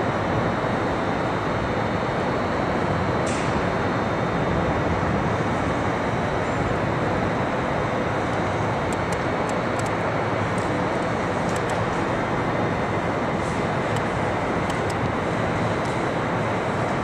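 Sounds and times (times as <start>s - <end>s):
city background roar: 0.0s - 17.0s.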